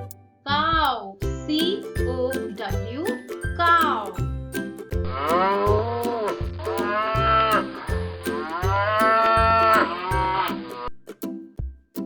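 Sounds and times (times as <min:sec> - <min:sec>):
children's music with beat: 0:00.0 - 0:12.0.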